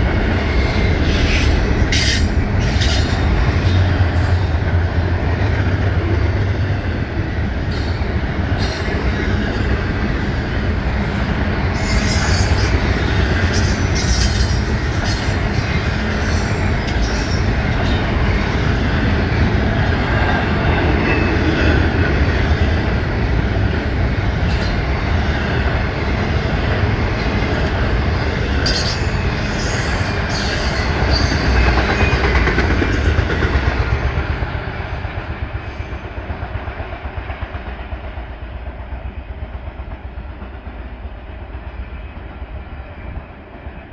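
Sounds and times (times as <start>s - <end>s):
wheels rumbling on rails: 0.0s - 43.9s.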